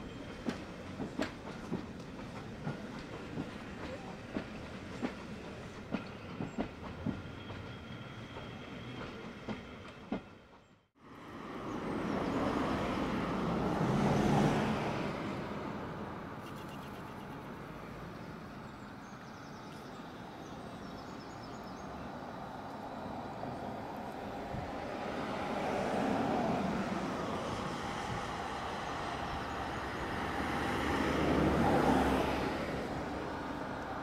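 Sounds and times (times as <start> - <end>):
train coaches rolling past: 0.0 - 34.0.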